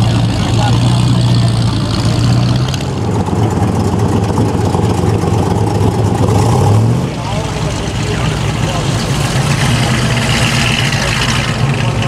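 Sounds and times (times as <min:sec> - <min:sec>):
car engines rumbling past: 0:00.0 - 0:12.0.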